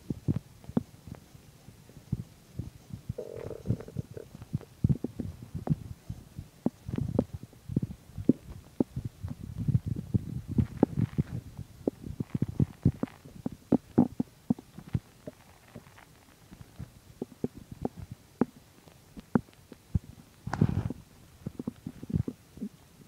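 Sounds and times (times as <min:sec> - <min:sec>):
stomach rumble: 0:00.0 - 0:23.0
stomach gurgling: 0:02.0 - 0:06.0, 0:06.6 - 0:22.8.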